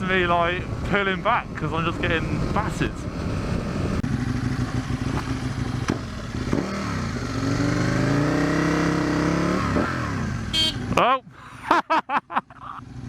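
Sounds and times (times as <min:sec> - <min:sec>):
motorcycle engine running: 0:00.0 - 0:11.1, 0:12.6 - 0:13.0.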